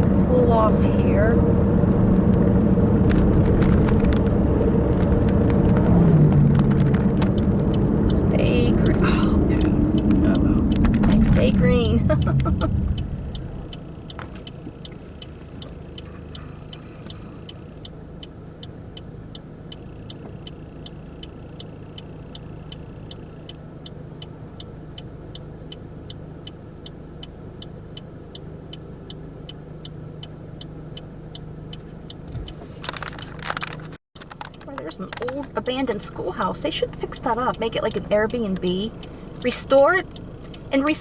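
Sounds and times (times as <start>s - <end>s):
car engine humming: 0.0s - 41.0s
turn signal clicking: 1.8s - 41.0s.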